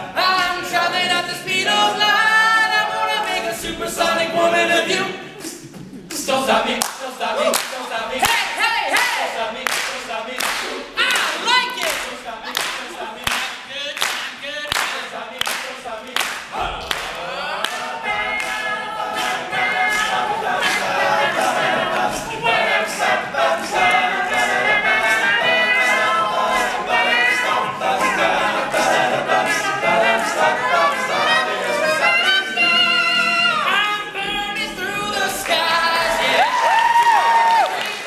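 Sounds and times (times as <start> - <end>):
a cappella group singing harmonies: 0.0 - 38.0
vocal percussion beat: 0.0 - 38.0.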